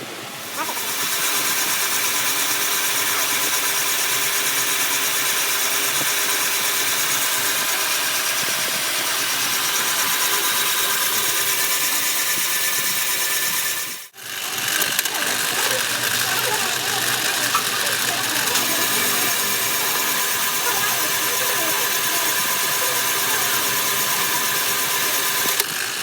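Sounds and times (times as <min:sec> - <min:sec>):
power tool hissing and whining: 0:00.0 - 0:26.0.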